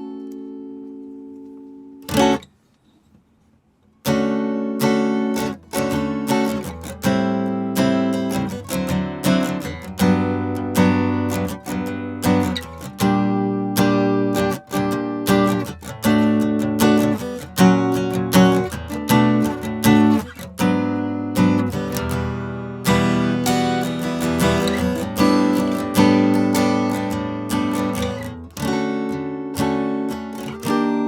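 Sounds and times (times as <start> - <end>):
acoustic guitar strummed and picked: 0.0 - 3.1, 3.9 - 31.0.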